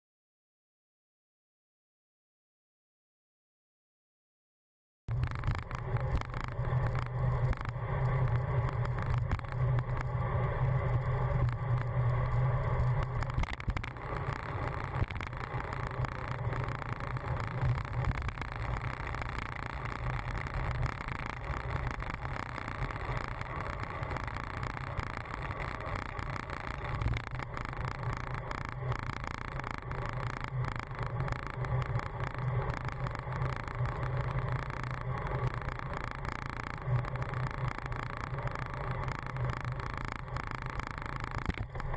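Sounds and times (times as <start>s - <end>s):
bicycle clicking: 5.1s - 41.9s.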